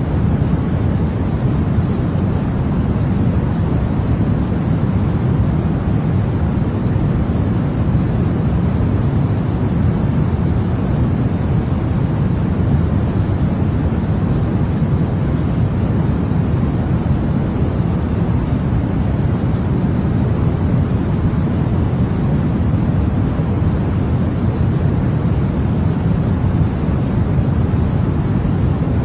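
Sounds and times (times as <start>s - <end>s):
white noise hiss: 0.0s - 29.0s.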